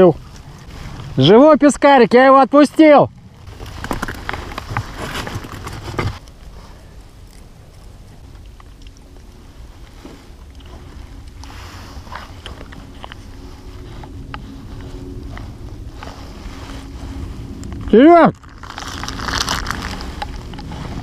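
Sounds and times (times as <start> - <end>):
wind rumble on microphone: 2.8 - 21.0
rustling: 3.3 - 21.0.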